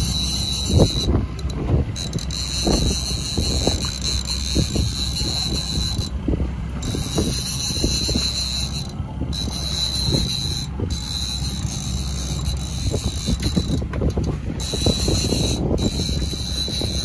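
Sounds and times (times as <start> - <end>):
fishing reel clicking: 0.0 - 6.2, 6.8 - 17.0
wind on microphone: 0.0 - 17.0.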